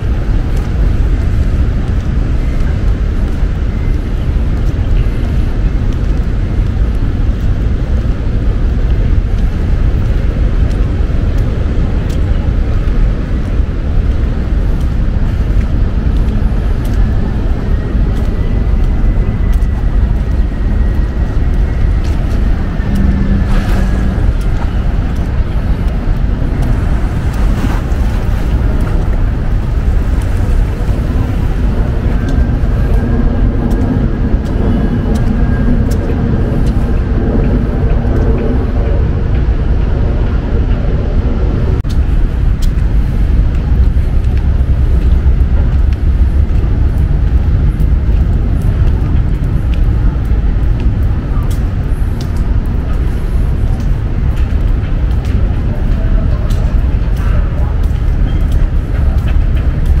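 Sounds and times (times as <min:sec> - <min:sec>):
low engine hum: 0:00.0 - 1:00.0
traffic rumble: 0:00.0 - 1:00.0.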